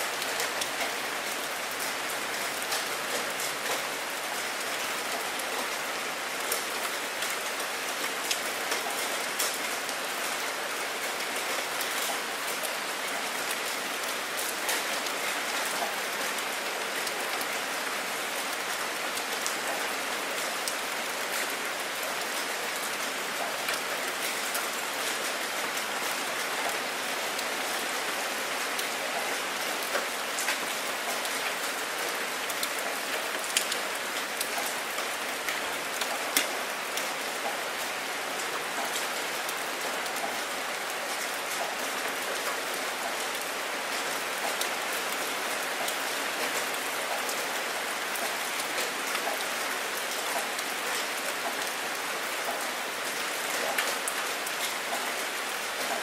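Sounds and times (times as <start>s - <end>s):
rain falling on water: 0.0s - 56.0s.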